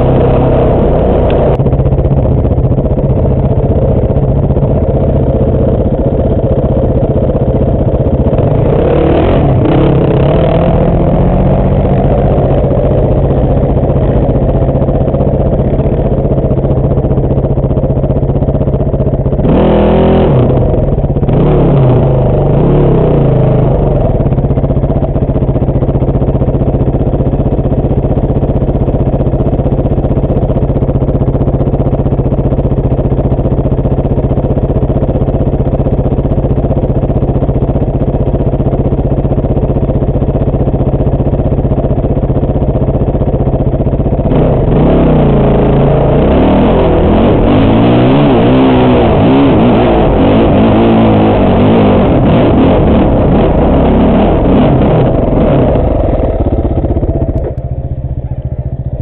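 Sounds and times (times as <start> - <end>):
dirt bike engine idling and revving: 0.0 - 59.0.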